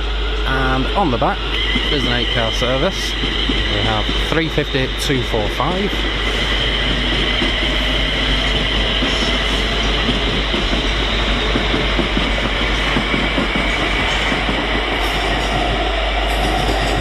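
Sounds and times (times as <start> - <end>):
steady high whine: 0.0 - 17.0
train wheels clicking over rail joints: 1.2 - 17.0.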